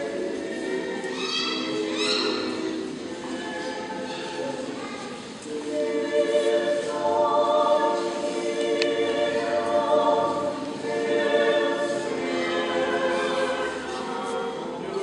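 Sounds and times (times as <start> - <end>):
choir chanting a cappella: 0.0 - 15.0.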